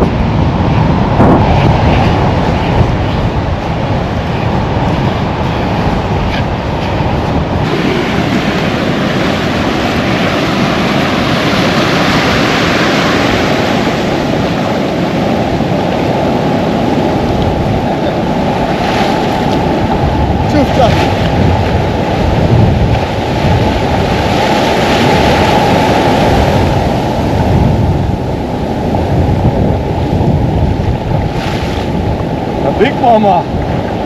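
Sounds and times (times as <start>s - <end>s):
rushing surf: 0.0s - 34.0s
wind buffeting microphone: 0.0s - 34.0s.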